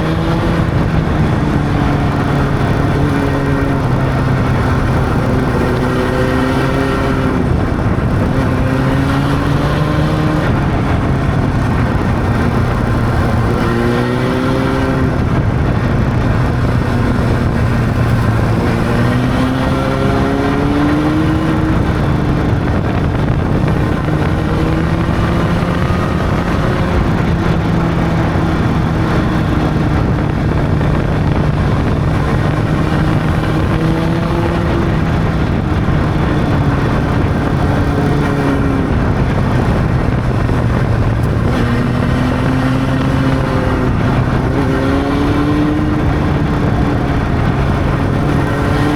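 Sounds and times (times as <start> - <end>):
motorcycle engine cruising: 0.0 - 48.9
rush of noise: 0.0 - 48.9.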